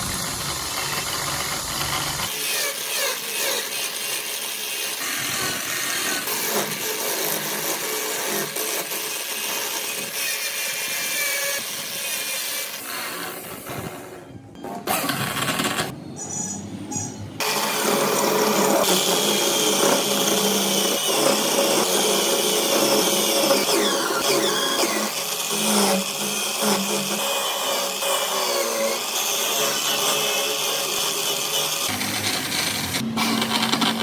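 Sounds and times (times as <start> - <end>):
power tool whining on wood: 0.0 - 11.7, 17.4 - 34.0.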